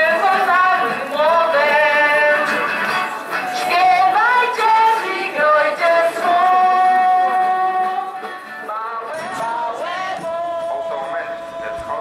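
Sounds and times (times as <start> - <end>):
women and children singing carol: 0.0 - 2.6, 3.6 - 12.0.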